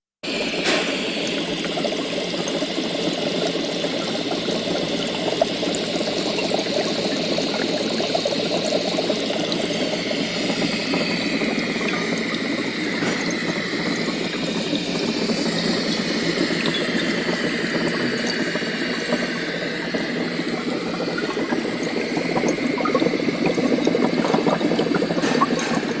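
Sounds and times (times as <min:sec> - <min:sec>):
liquid bubbling and gurgling: 0:00.2 - 0:26.0.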